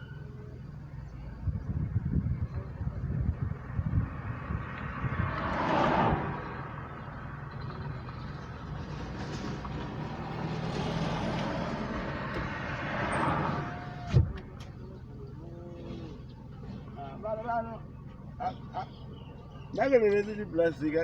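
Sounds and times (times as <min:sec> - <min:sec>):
steady low traffic hum: 0:00.0 - 0:21.0
vehicles passing: 0:00.0 - 0:21.0.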